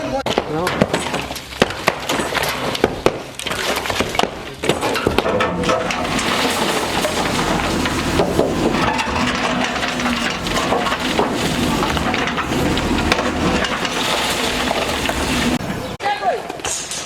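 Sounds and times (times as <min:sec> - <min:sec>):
splintering timber and debris: 0:00.3 - 0:16.0.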